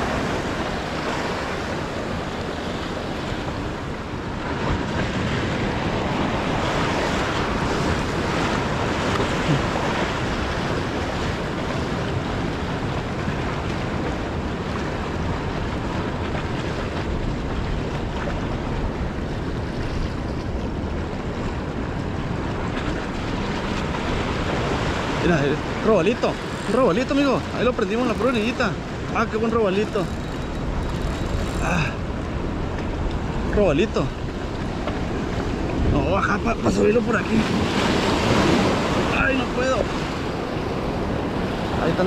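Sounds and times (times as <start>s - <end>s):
surf washing over rocks: 0.0s - 42.0s
wind blowing across microphone: 0.0s - 42.0s.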